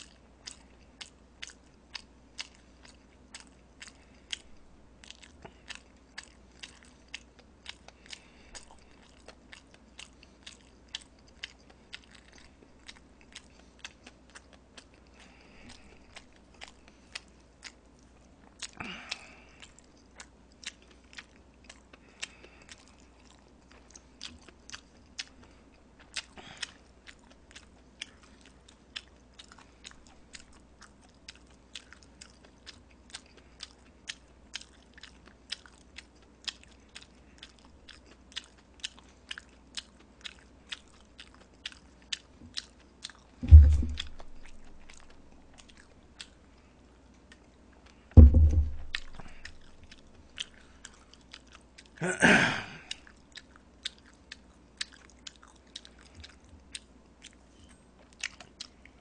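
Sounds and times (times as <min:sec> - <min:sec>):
wet chewing mouth clicks: 0:00.0 - 0:52.0, 0:52.8 - 0:59.0.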